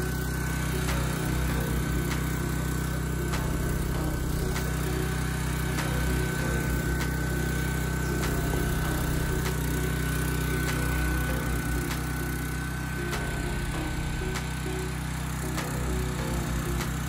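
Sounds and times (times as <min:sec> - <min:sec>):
engine running steadily: 0:00.0 - 0:17.0
thin steady whine: 0:00.0 - 0:17.0.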